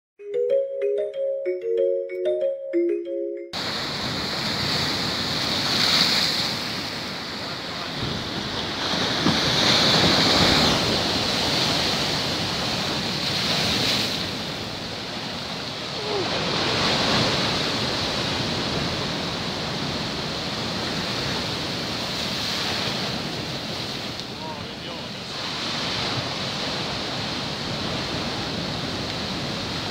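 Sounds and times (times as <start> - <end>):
waves crashing on rocks: 3.6 - 29.9.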